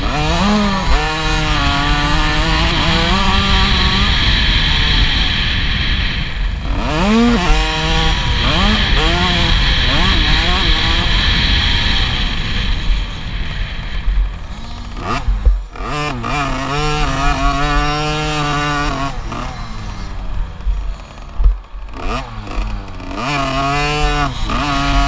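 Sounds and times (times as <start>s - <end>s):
motorbike engine revving: 0.0s - 25.0s.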